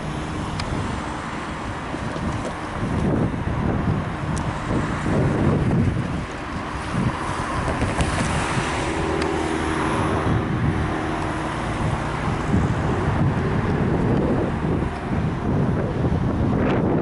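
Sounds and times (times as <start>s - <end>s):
road traffic noise: 0.0s - 17.0s
vehicle passing: 0.0s - 17.0s
wind buffeting microphone: 0.0s - 17.0s.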